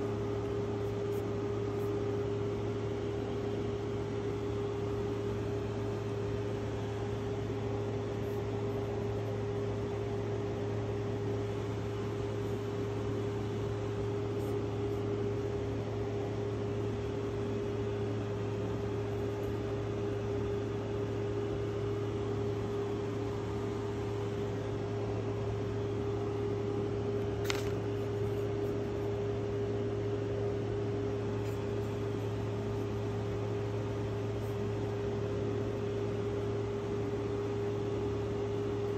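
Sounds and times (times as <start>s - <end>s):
electrical-mechanical hum: 0.0s - 38.9s.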